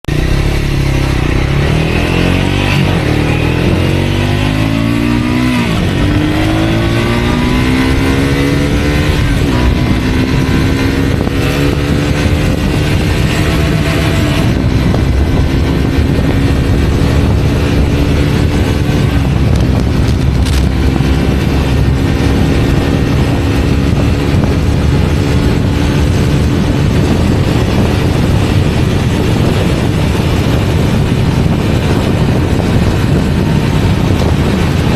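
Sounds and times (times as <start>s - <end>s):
motorcycle engine accelerating: 0.0s - 34.9s
wind rushing: 0.1s - 34.9s.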